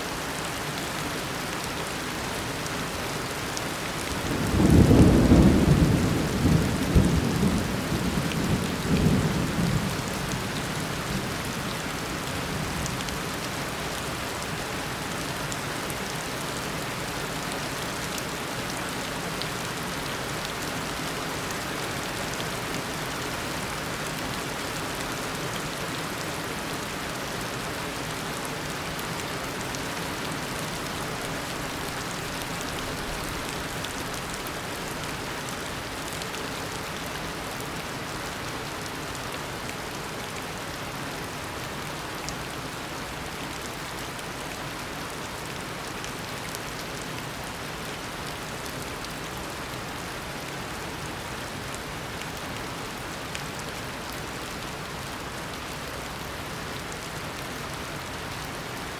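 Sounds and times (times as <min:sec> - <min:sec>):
heavy rain on foliage: 0:00.0 - 0:58.9.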